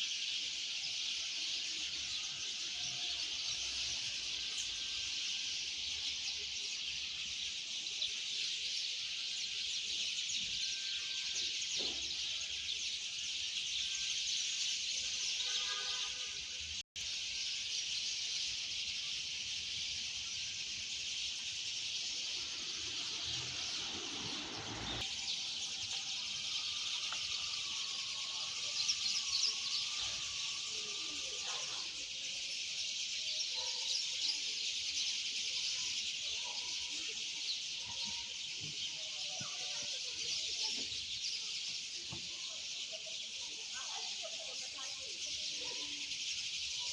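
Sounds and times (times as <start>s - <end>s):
birds chirping and twittering: 0.0s - 46.9s.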